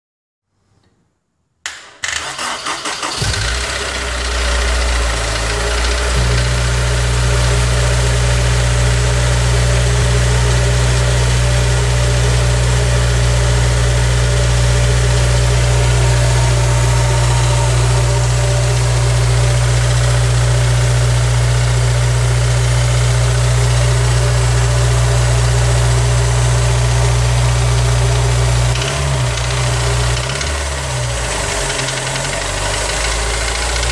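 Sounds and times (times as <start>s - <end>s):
car engine starting and idling: 1.7s - 33.9s
engine rattling: 2.3s - 33.9s.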